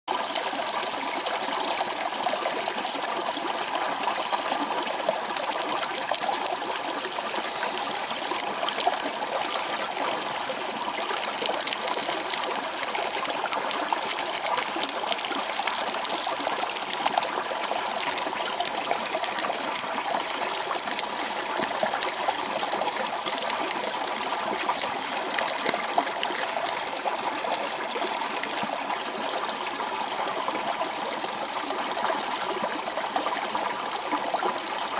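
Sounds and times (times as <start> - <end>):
water trickling and splashing: 0.1 - 34.9
small clicks and crackles: 1.2 - 30.7.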